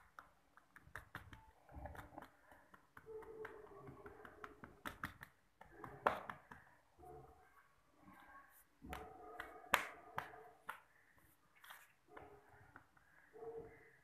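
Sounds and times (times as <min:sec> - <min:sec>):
fingers patting dough: 0:00.0 - 0:07.0, 0:08.8 - 0:11.4, 0:12.0 - 0:13.9.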